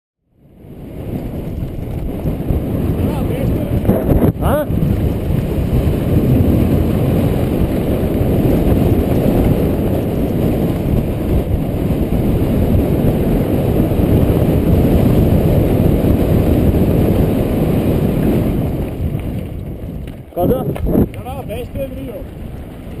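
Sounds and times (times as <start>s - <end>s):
wind buffeting microphone: 0.4s - 23.0s
bike rattling over gravel: 0.6s - 23.0s.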